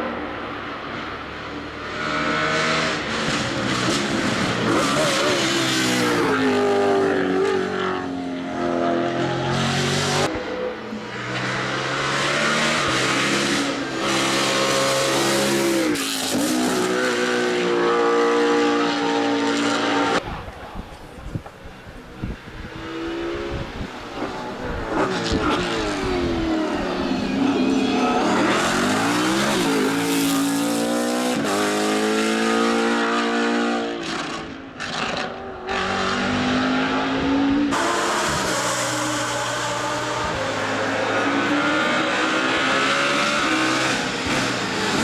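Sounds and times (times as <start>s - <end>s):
race car engine at full throttle: 0.0s - 45.0s.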